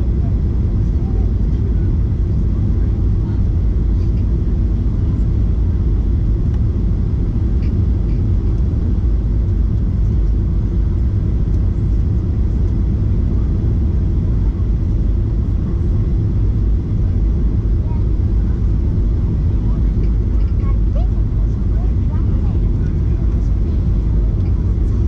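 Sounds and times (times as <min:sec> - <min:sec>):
jet airliner cabin rumble: 0:00.0 - 0:25.0.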